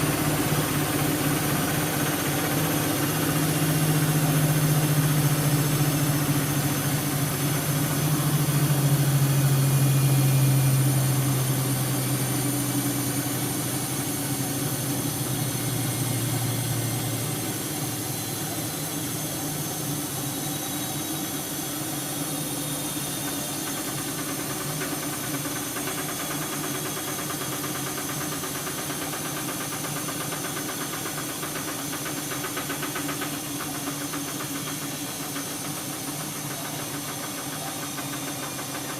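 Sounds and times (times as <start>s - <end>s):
washing machine drum whirring: 0.0s - 38.9s
washing machine motor hum: 0.0s - 38.9s.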